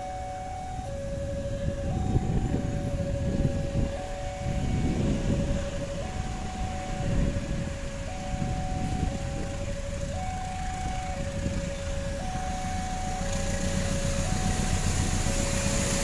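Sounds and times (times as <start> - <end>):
diesel locomotive rumble: 0.0 - 16.0
two-tone railway warning alarm: 0.0 - 16.0.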